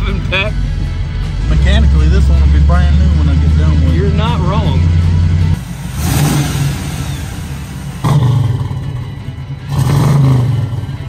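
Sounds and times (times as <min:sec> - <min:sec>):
car engine revving hard: 0:01.4 - 0:11.0.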